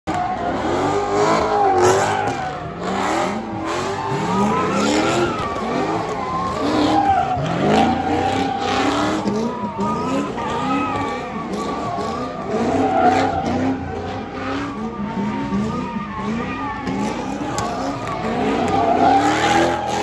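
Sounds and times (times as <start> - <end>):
car engines revving: 0.0 - 20.0
tires squealing: 0.1 - 20.0.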